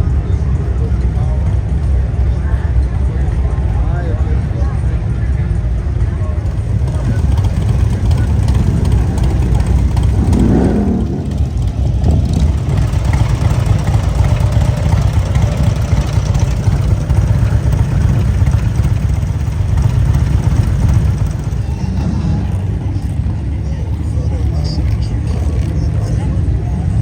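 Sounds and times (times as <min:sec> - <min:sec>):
road or wind noise: 0:00.0 - 0:27.0
vehicle engine rumbling: 0:00.0 - 0:27.0.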